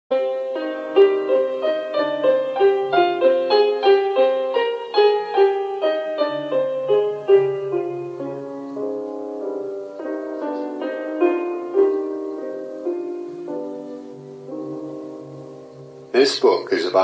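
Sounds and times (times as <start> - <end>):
solo piano music: 0.1 - 17.0.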